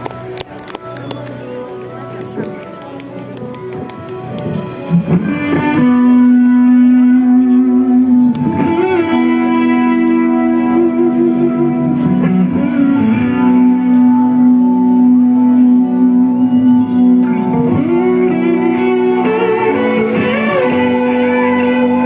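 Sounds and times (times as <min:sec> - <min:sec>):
electric guitar sustained notes: 0:00.0 - 0:22.0.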